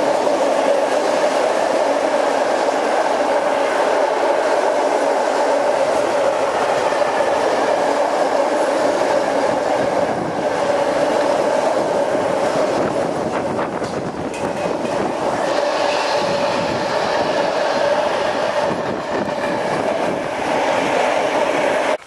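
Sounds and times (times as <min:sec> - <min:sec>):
freight train rumbling past: 0:00.0 - 0:22.0
train wheel clacks: 0:00.0 - 0:22.0.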